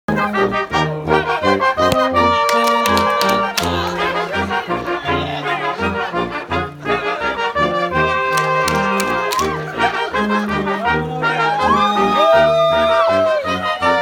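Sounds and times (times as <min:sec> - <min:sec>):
tuba oom-pah bass: 0:00.1 - 0:11.7
brass band playing a polka: 0:00.1 - 0:12.1, 0:12.7 - 0:14.0.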